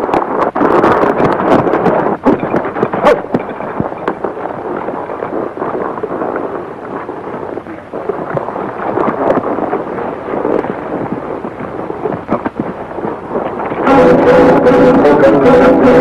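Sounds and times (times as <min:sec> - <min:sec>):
horses galloping hoofbeats: 0:00.0 - 0:16.0.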